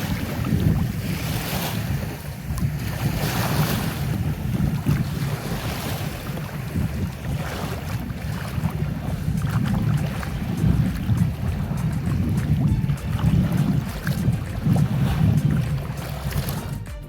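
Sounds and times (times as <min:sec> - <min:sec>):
wind buffeting microphone: 0:00.0 - 0:16.9
waves washing around kayak: 0:00.0 - 0:17.0.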